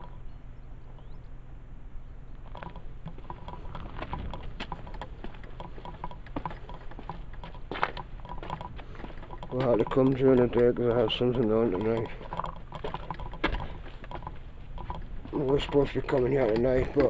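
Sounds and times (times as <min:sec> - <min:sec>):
low background hum: 0:00.0 - 0:17.0
footsteps on stone: 0:02.5 - 0:17.0.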